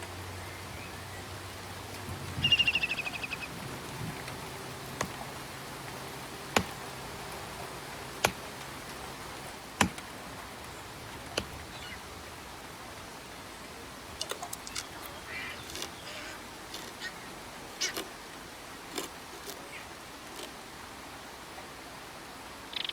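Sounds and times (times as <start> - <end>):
bird calling: 0.0 - 18.2, 19.0 - 20.4, 22.7 - 22.9
steady rain falling: 0.0 - 22.9.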